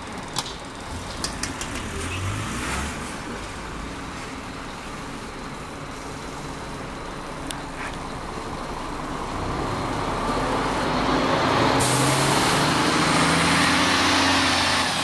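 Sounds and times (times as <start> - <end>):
diesel engine rumbling: 0.0 - 15.0
street traffic: 0.0 - 15.0.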